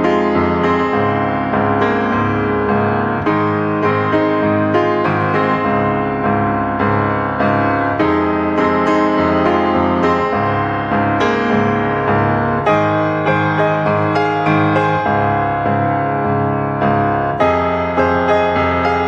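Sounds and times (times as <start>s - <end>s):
piano piece: 0.0s - 19.0s.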